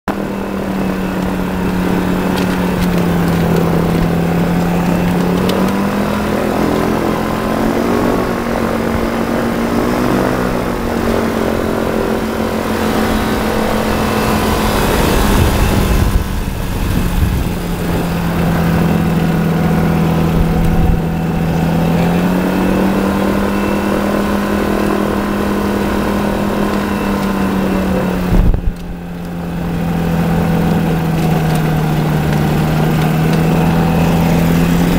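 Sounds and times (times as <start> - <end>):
light aircraft engine and propeller: 0.0 - 34.9
rush of noise: 0.1 - 34.9.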